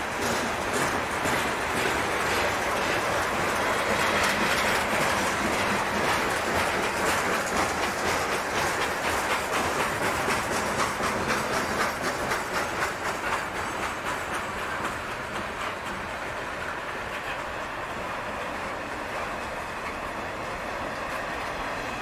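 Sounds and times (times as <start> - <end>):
train wheels rolling on rails: 0.0 - 22.0.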